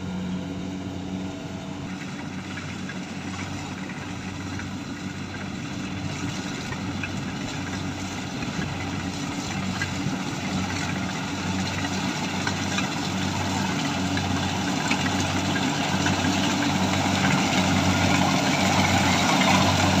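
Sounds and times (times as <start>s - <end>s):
combine harvester diesel engine: 0.0s - 20.0s.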